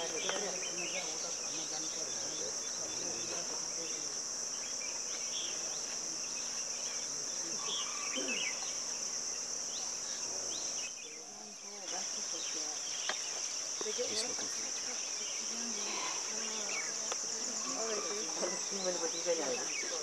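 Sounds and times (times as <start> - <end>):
insects chorus: 0.0 - 20.0.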